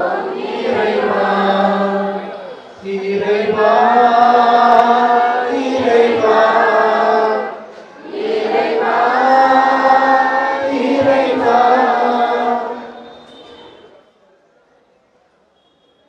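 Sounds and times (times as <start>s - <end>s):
group singing a hymn: 0.0s - 13.3s.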